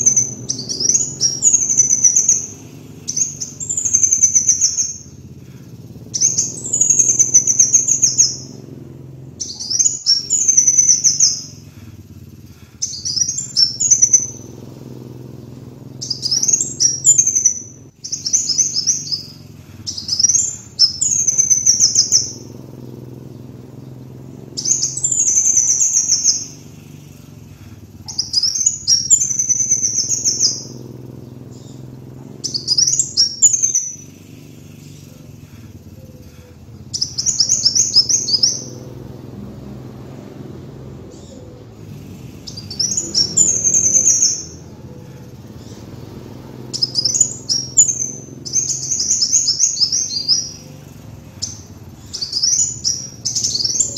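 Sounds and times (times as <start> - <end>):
faint low hum: 0.0 - 53.9
sunbird chittering song: 0.0 - 53.9.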